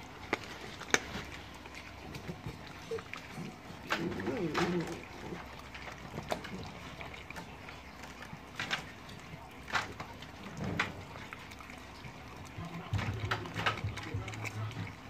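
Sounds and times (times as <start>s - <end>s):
puppy chewing bone: 0.0s - 15.0s.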